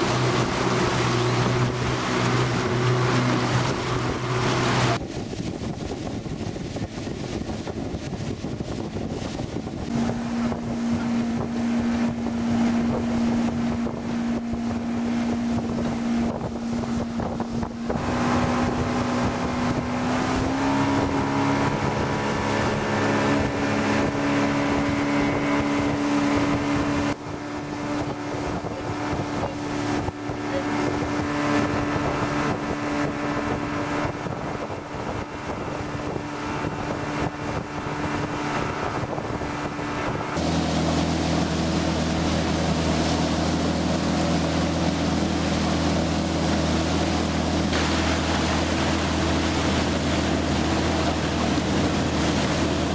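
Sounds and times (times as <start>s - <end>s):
motorboat engine running: 0.0s - 52.9s
water rushing past hull: 0.0s - 52.9s
wind on microphone: 0.0s - 52.9s.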